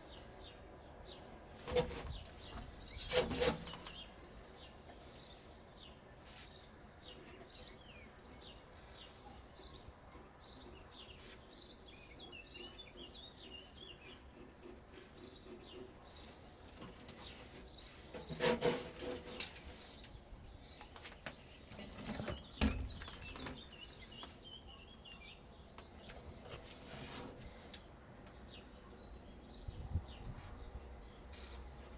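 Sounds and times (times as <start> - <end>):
small birds chirping: 2.0 - 18.4, 19.1 - 31.9.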